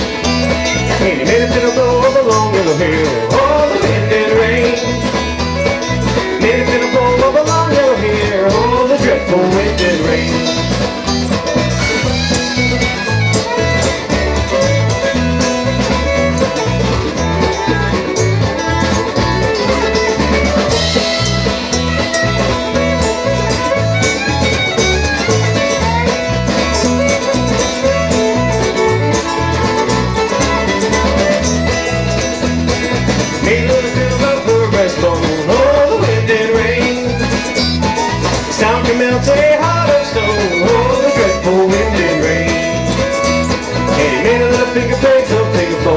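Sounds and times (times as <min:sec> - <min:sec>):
bluegrass band playing: 0:00.0 - 0:45.9
fiddle melody: 0:00.0 - 0:45.9.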